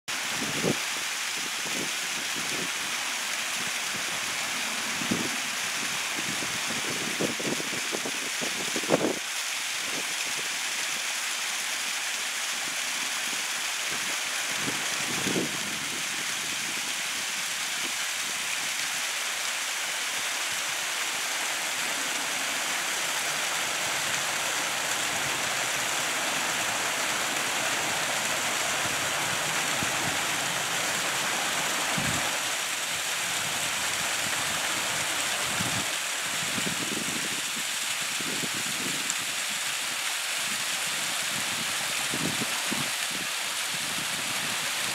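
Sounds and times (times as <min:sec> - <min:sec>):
small waterfall splashing: 0:00.1 - 0:44.9.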